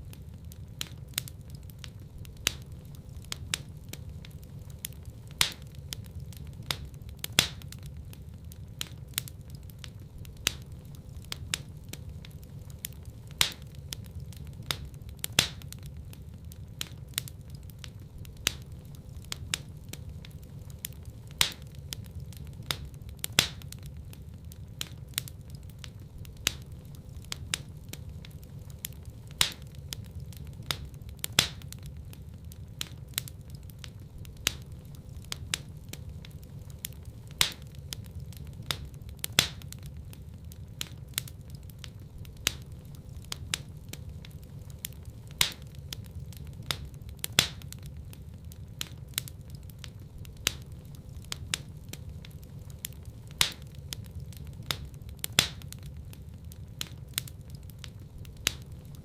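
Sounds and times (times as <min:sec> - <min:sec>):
low rumble of burning fire: 0:00.0 - 0:59.0
wood fire pops and snaps: 0:00.0 - 0:59.0.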